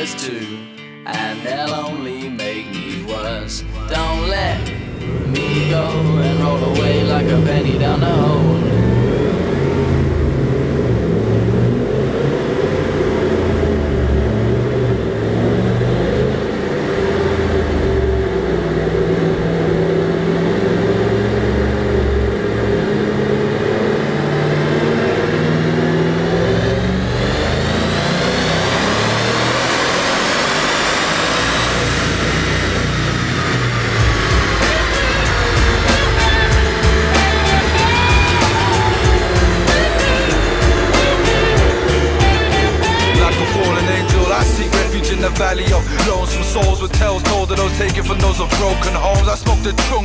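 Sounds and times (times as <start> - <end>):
car engine revving on dyno: 3.8 - 50.0.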